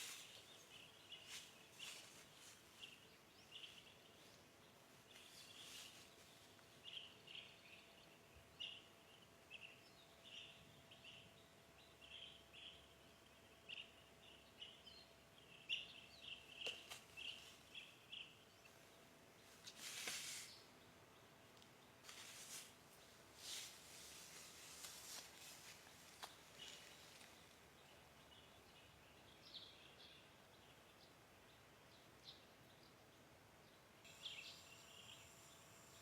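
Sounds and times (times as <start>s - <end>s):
faint birds chirping: 0.0s - 36.0s
faint steady hum: 0.0s - 36.0s.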